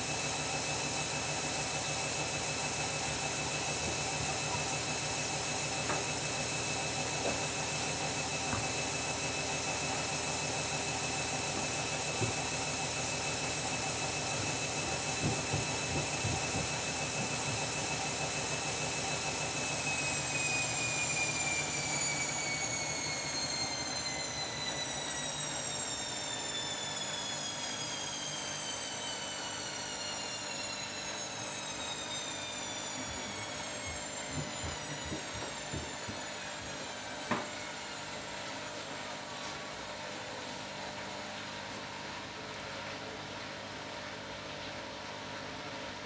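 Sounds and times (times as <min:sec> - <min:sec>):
washing machine drum spinning down: 0:00.0 - 0:38.4.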